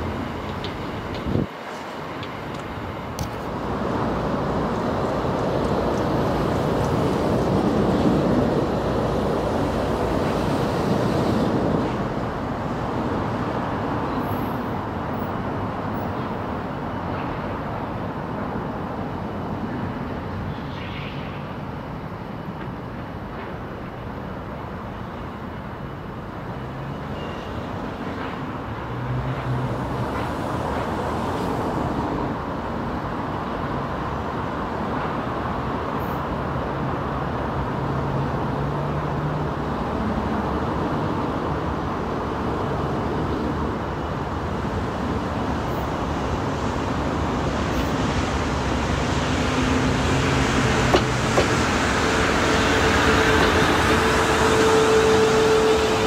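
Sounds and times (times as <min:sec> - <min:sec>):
approaching train rumble: 0:00.0 - 0:56.0
train low hum: 0:00.0 - 0:56.0.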